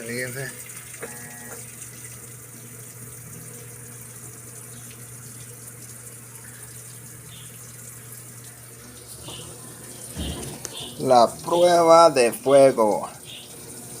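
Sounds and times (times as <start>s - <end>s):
low machine hum: 0.0s - 14.0s
water pouring into washing machine: 0.0s - 14.0s.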